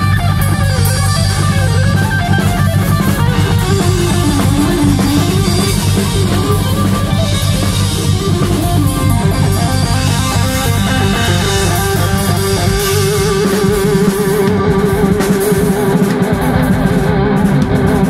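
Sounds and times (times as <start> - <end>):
harmonica: 0.0 - 15.7
blues-rock band playing: 0.0 - 18.0.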